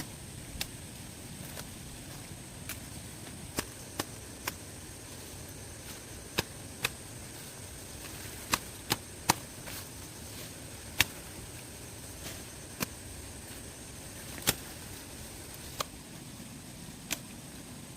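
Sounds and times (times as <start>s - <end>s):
steady background hiss: 0.0s - 17.9s.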